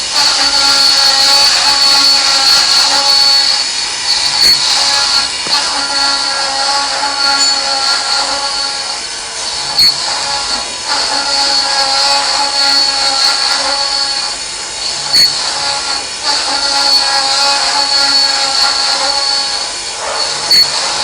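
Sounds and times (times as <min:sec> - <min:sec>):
machine spindle whine cutting metal: 0:00.0 - 0:21.0.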